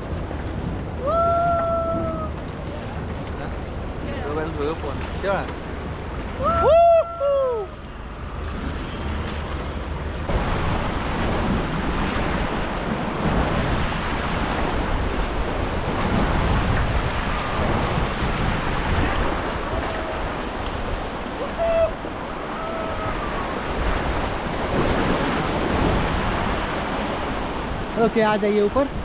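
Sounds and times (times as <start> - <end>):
whitewater roaring: 0.0 - 29.0
wind buffeting microphone: 0.0 - 29.0.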